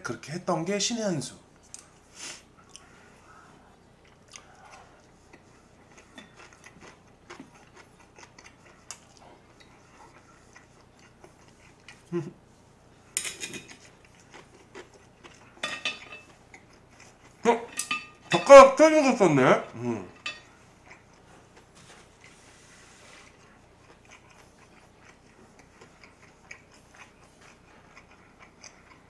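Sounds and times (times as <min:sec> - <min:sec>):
faint chewing: 0:01.6 - 0:12.4, 0:13.1 - 0:17.5, 0:19.7 - 0:29.0.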